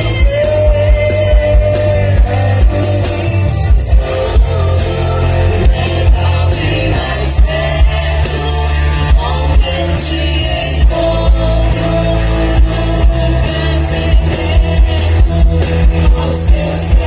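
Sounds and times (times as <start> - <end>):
band playing worship song: 0.0 - 17.0
person singing: 0.0 - 17.0.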